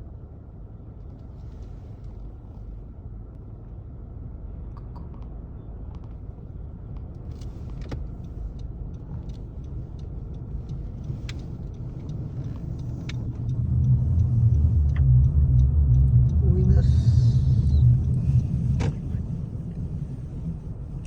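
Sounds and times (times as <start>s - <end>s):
engine and tyres rumbling: 0.0s - 21.0s.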